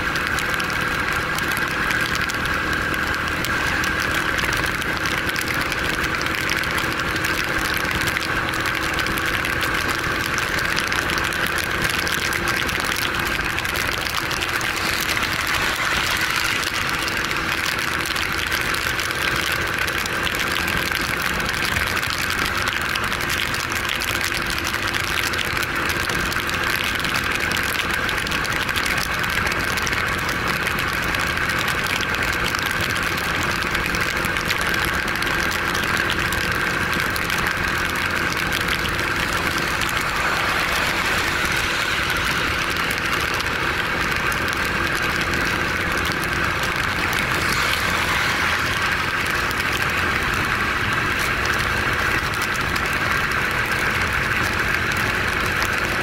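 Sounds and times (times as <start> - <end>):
motorcycle engine running: 0.0 - 56.0
tyres hissing on wet road: 0.0 - 56.0
wind and rain on microphone: 0.0 - 56.0.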